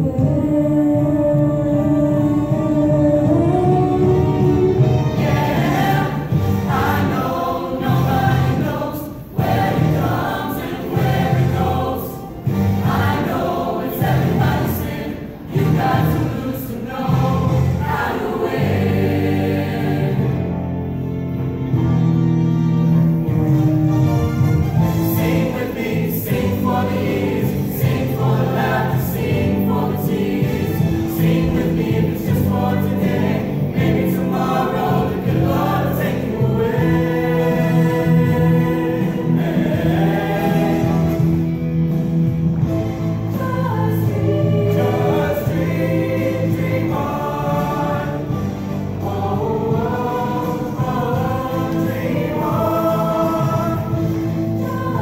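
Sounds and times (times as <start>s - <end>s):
choir singing: 0.0s - 21.3s, 24.7s - 55.0s
sustained instrumental accompaniment: 0.0s - 55.0s.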